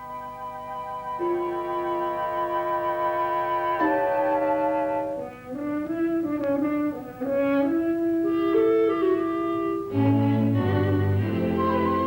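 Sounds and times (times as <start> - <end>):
orchestral brass notes: 0.0 - 12.0.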